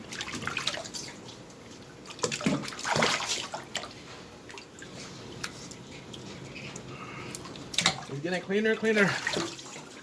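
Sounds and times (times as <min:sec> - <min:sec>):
water splashing and trickling: 0:00.0 - 0:06.3, 0:07.5 - 0:10.0.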